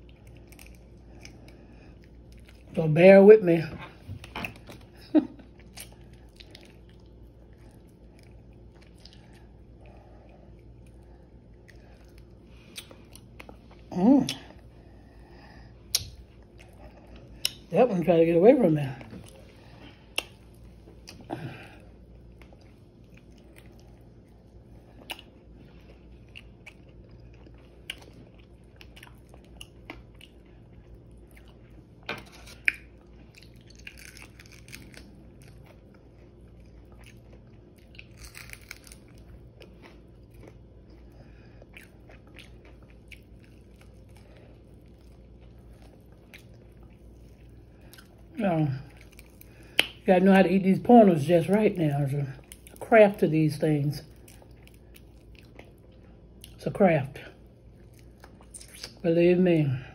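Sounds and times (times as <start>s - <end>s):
chewing crispy food: 0.0s - 3.0s, 3.9s - 17.7s, 18.8s - 56.6s, 57.2s - 59.0s.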